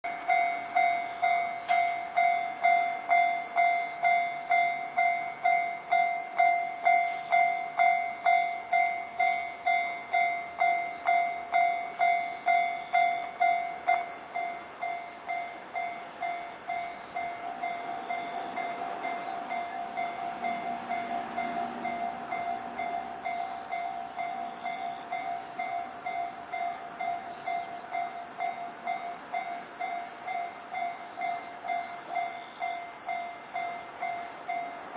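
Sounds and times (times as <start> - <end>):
train rushing rumble: 0.1 - 34.9
level-crossing bell ringing: 0.2 - 34.9.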